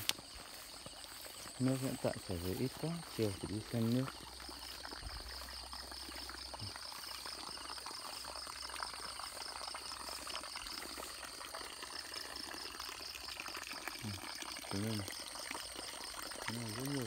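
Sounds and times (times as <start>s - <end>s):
insects chirping: 0.0s - 17.0s
water trickling into pond: 0.0s - 17.0s.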